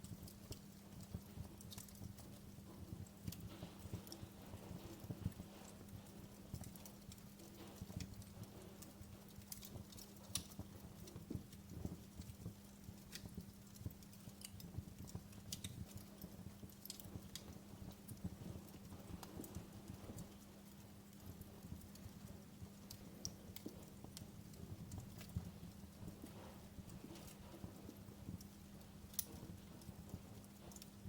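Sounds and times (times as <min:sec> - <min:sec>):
faint low hum: 0:00.0 - 0:31.0
wood fire crackling: 0:00.0 - 0:31.0.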